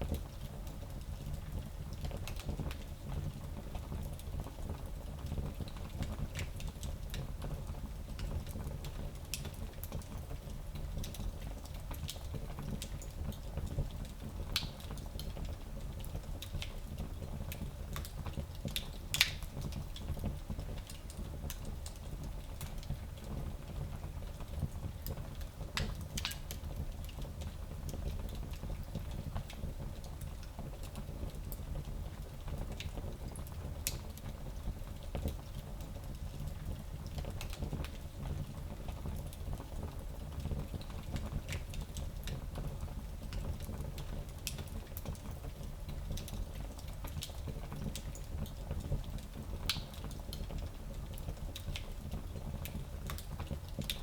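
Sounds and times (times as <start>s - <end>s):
fire crackling and popping: 8.0s - 54.0s.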